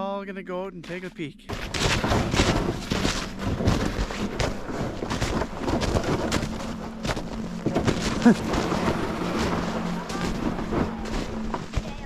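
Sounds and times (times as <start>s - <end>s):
faint low hum: 0.0s - 12.0s
crunching footsteps: 0.8s - 12.0s.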